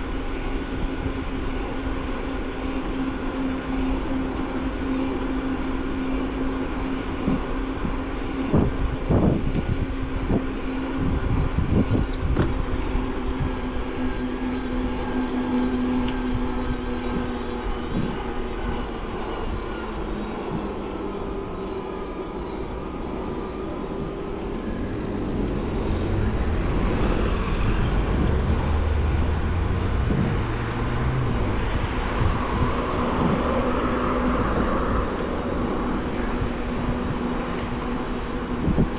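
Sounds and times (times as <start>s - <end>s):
bike tyres and wind rumble: 0.0s - 38.9s.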